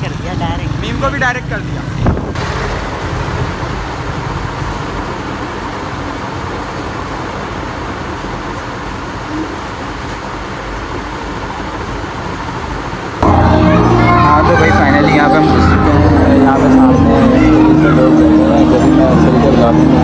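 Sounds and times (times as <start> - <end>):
road and vehicle rumble: 0.0 - 20.0.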